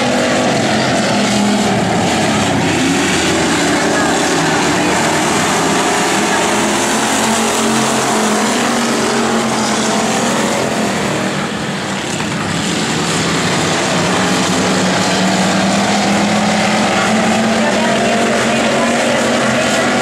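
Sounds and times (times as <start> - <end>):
race car engines at speed: 0.0 - 20.0.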